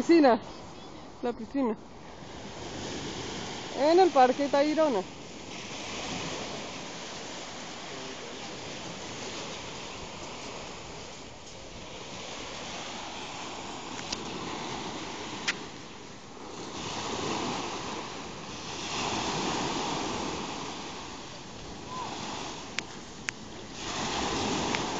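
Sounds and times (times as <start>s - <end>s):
small waves breaking on beach: 0.0s - 24.9s.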